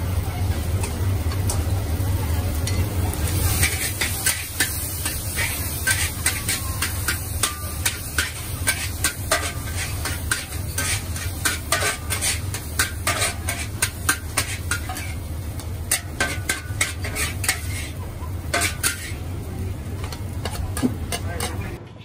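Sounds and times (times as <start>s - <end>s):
metal spatula scraping wok: 2.7s - 19.3s, 20.0s - 21.8s.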